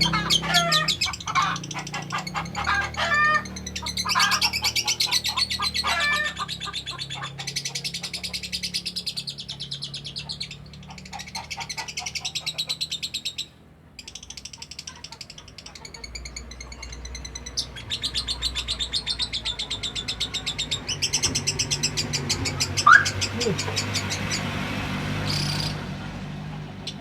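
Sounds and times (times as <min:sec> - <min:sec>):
lovebird chattering song: 0:00.0 - 0:25.8
lower swooping bird calls: 0:00.0 - 0:27.0.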